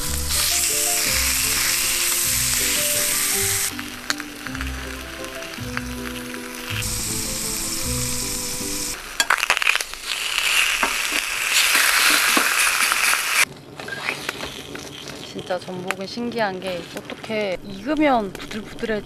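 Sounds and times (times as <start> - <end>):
abalone sizzling in metal tray: 0.0 - 16.3, 17.3 - 19.0.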